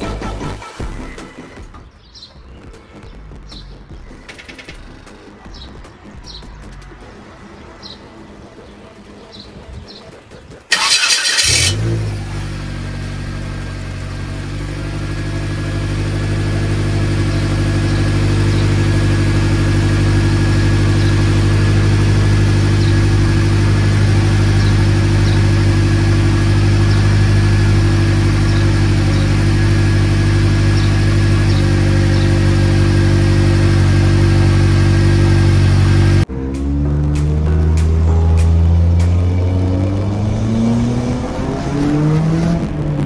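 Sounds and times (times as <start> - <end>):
car engine starting and idling: 0.0 - 2.0, 8.2 - 43.0.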